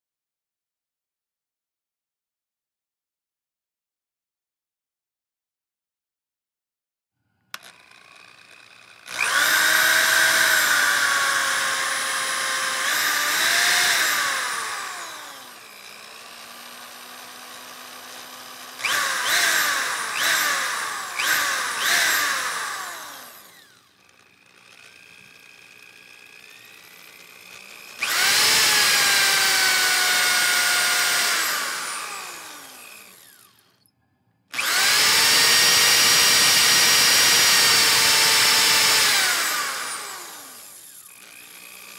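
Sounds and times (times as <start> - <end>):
power drill motor whining: 7.5 - 33.9, 34.5 - 41.9.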